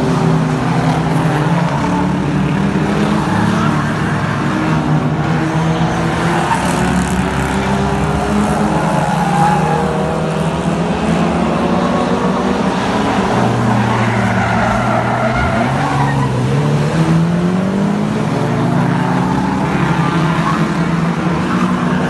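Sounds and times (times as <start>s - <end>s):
racing car engines: 0.0s - 22.0s.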